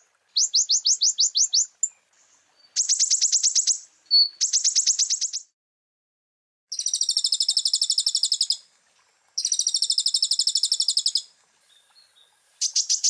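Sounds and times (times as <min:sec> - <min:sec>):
bird singing high trills: 0:00.3 - 0:05.5, 0:06.7 - 0:08.6, 0:09.4 - 0:13.0.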